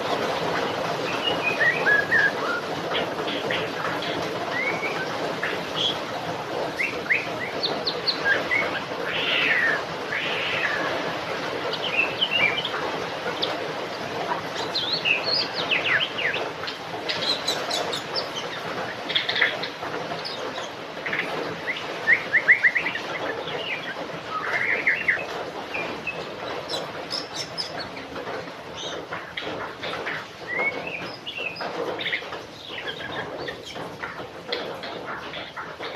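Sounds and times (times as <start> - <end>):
songbird singing: 0.0 - 11.0, 11.6 - 35.9
steady background hiss: 0.0 - 35.9.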